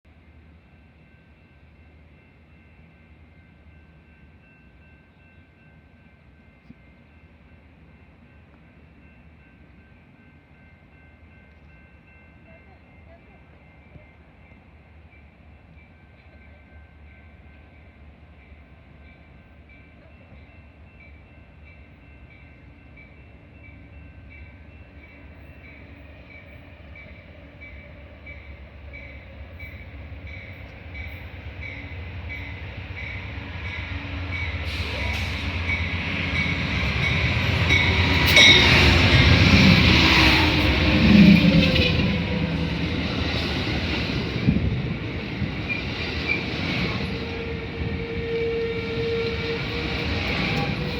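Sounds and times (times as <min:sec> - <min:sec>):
train rumble and wheel noise: 0:00.1 - 0:50.9.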